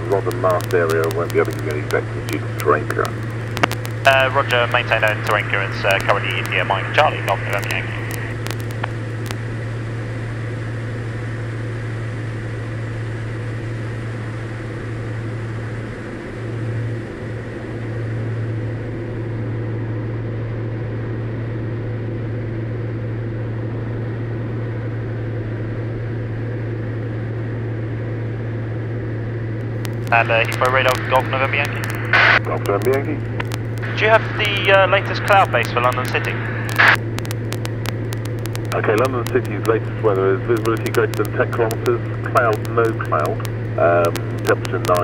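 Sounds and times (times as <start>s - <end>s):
propeller aircraft engine droning: 0.0s - 45.0s.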